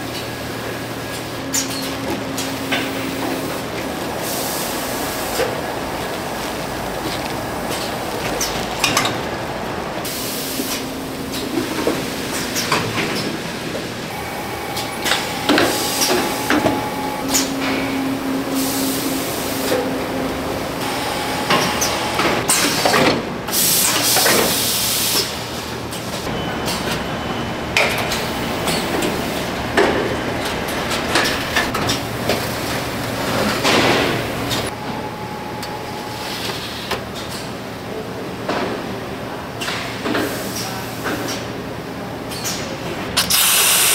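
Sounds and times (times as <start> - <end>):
factory machinery running: 0.0 - 43.9.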